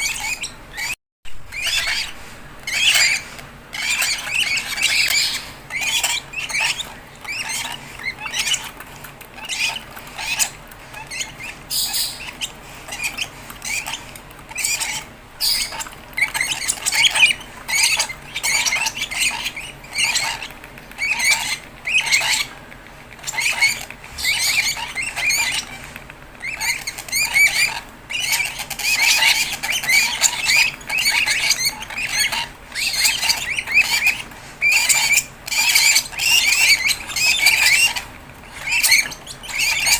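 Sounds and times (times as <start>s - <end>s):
bird chicks squeaky begging calls: 0.0s - 39.9s.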